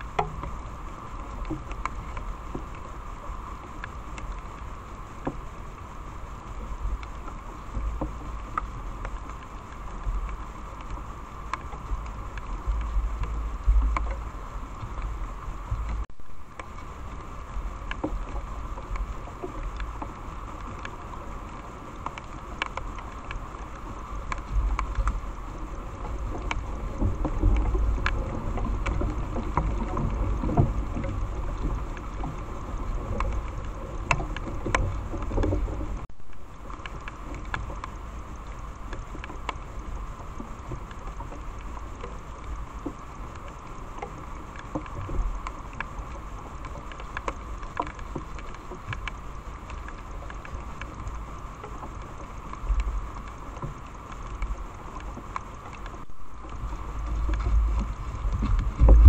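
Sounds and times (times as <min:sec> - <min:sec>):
background hiss and rumble: 0:00.0 - 0:59.0.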